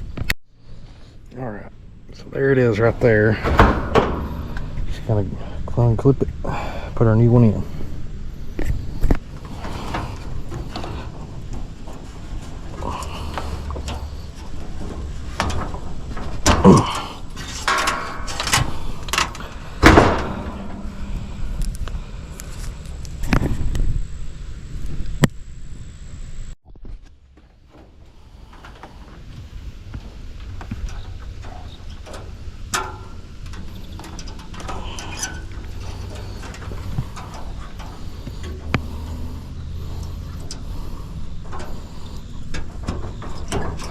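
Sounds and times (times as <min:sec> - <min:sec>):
low steady rumble: 0:00.0 - 0:43.9
rattling scrape: 0:02.4 - 0:06.2, 0:07.4 - 0:23.7, 0:27.9 - 0:43.9.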